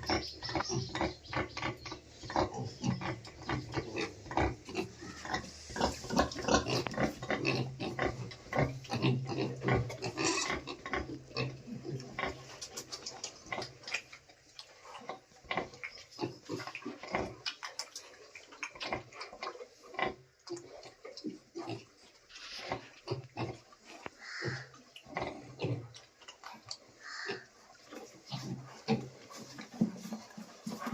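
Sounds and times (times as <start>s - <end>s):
pigs grunting: 0.0s - 14.0s, 18.8s - 30.9s.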